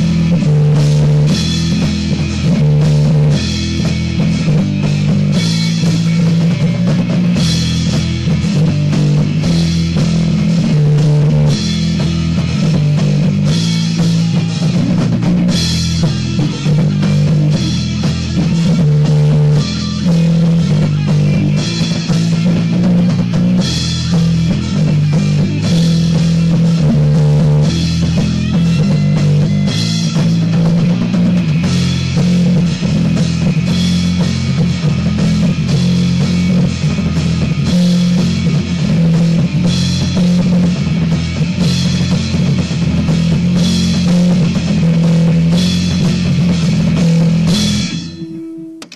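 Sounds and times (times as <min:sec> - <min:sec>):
bass guitar: 0:00.0 - 0:48.9
drum kit: 0:00.0 - 0:48.9
electric guitar: 0:00.0 - 0:48.9.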